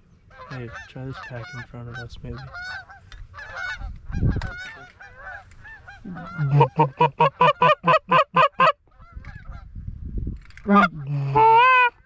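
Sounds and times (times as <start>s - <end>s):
goose call clucks: 0.3s - 9.6s, 10.6s - 12.0s
distant geese honking: 0.3s - 9.7s, 10.7s - 12.0s.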